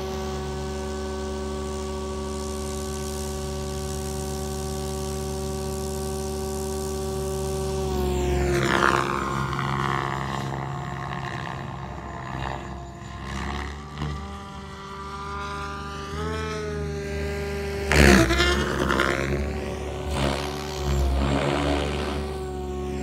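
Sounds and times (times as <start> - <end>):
rc helicopter whine: 0.0 - 23.0
rotor blades rushing: 0.0 - 23.0.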